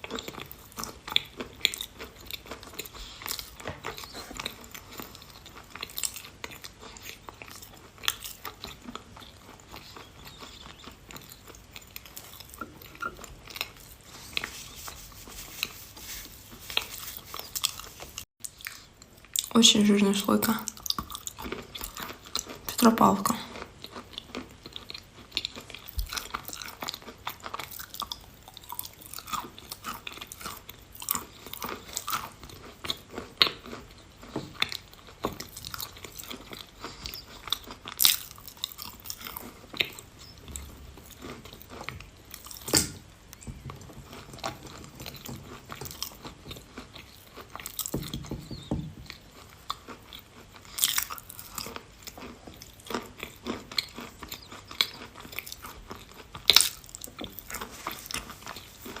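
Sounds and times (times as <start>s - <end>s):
person chewing chalk: 0.0s - 19.6s, 20.7s - 22.8s, 23.4s - 59.0s.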